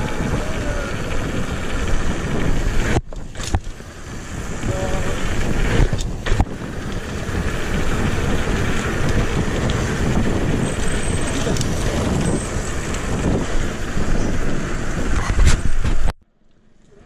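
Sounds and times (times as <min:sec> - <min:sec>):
wind on microphone: 0:00.0 - 0:16.2
bike tyres rolling on pavement: 0:00.0 - 0:17.0.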